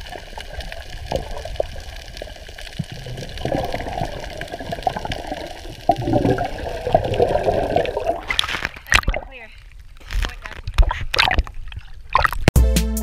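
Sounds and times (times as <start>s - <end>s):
sea water sloshing and gurgling: 0.0s - 12.5s
small crackling splashes: 0.0s - 12.6s.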